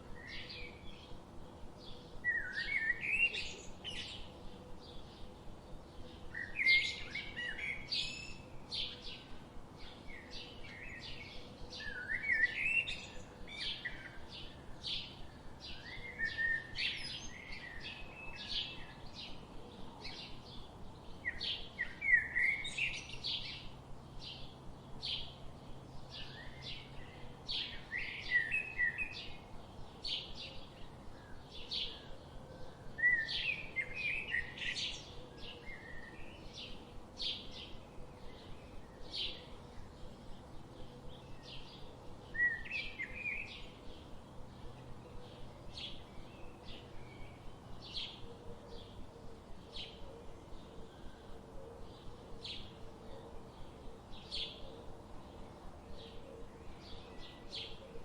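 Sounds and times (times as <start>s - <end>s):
birds chirping and singing: 1.8s - 58.0s.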